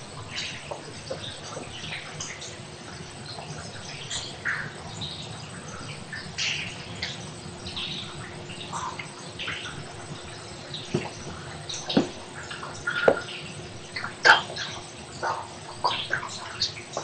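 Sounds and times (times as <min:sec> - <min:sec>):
water dripping in echoing tunnel: 0:00.0 - 0:17.0.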